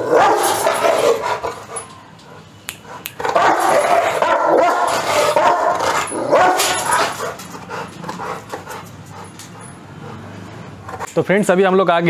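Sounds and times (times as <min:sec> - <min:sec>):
dog barking and whining: 0:00.0 - 0:10.2.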